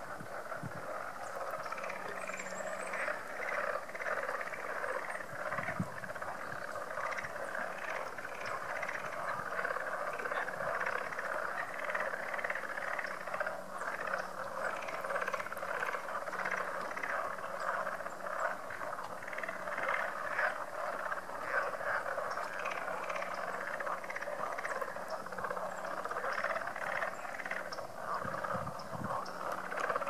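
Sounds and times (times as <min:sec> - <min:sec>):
chorus of frogs calling: 0:00.0 - 0:30.0.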